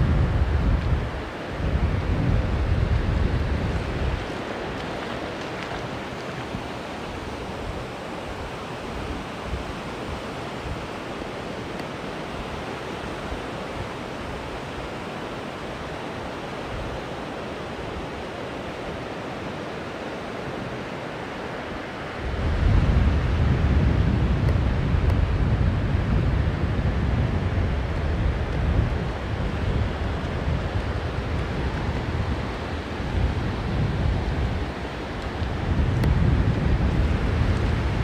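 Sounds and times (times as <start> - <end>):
surf washing onto a beach: 0.0 - 38.0.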